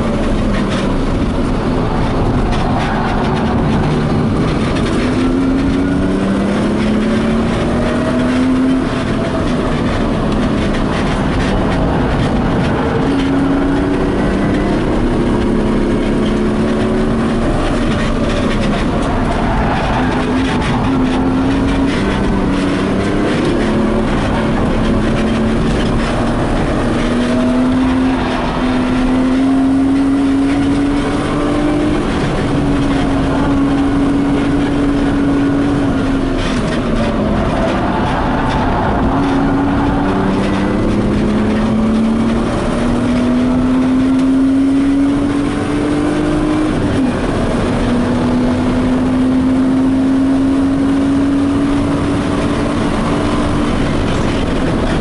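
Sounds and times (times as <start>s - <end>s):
car engine pulling hard: 0.0s - 55.0s.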